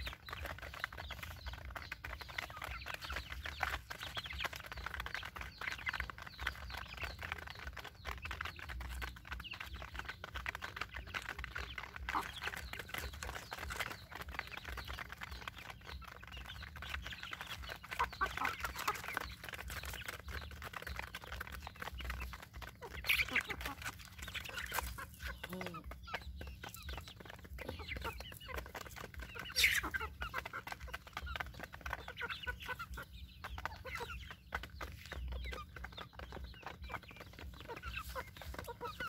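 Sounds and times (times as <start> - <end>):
beaks pecking grain from pan: 0.0 - 39.0
chicks clucking and peeping: 0.0 - 39.0.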